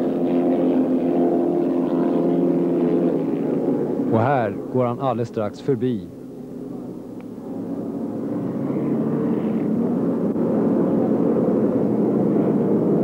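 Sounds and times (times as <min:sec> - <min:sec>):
powerboat engines droning: 0:00.0 - 0:13.0.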